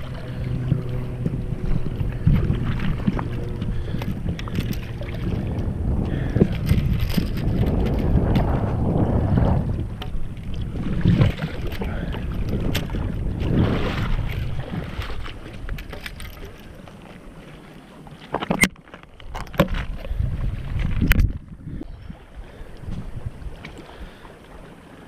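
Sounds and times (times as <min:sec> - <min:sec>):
wind buffeting microphone: 0:00.0 - 0:17.0, 0:19.2 - 0:24.3
water sloshing in shallows: 0:00.0 - 0:25.0.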